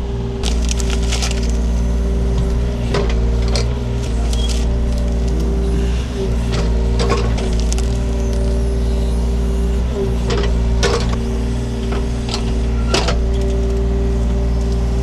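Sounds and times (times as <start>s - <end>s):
excavator diesel engine whining: 0.0s - 15.0s.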